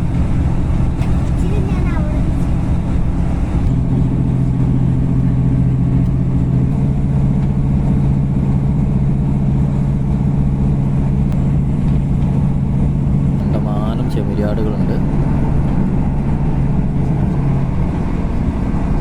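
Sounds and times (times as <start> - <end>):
train engine hum: 0.0 - 19.0
wheels on rails: 0.0 - 19.0.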